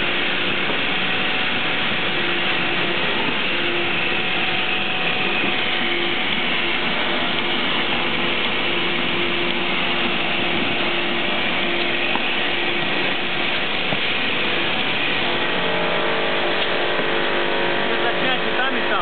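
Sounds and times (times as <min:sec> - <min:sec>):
constant hum: 0:00.0 - 0:19.0
production-line machinery running: 0:00.0 - 0:19.0.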